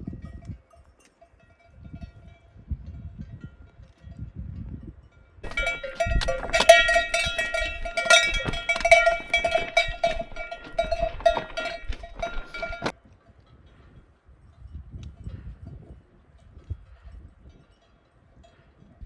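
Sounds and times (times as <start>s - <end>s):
sheep bells clanking: 0.0s - 15.5s.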